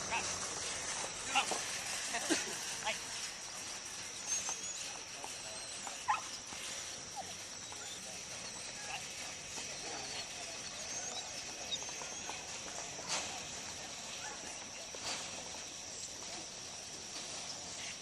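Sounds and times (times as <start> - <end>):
steady high hum: 0.0 - 18.0
faint chirps: 0.1 - 18.0.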